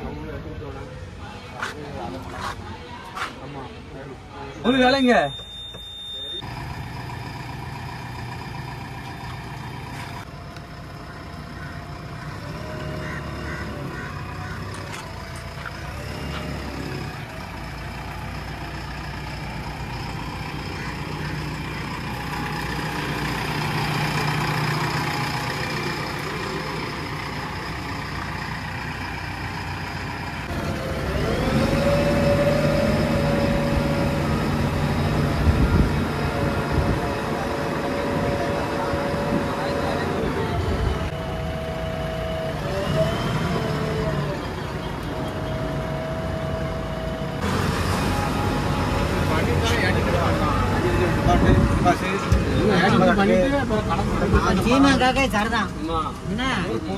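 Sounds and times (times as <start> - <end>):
diesel engine revving: 6.4 - 56.9.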